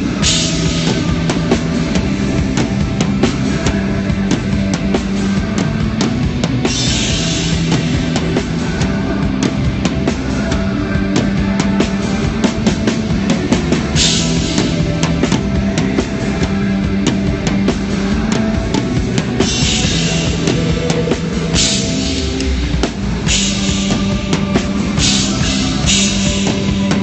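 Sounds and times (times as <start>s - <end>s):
drum kit beat: 0.0s - 27.0s
live rock band playing: 0.0s - 27.0s.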